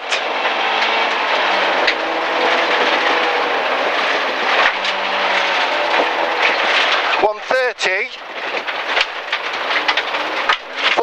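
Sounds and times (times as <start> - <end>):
car engine under load: 0.0 - 11.0
tyre and gravel noise: 0.0 - 11.0.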